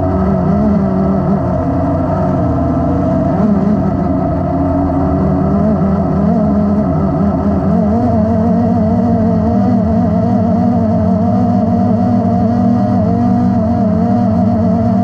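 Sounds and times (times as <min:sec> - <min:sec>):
drone propellers droning: 0:00.0 - 0:15.0.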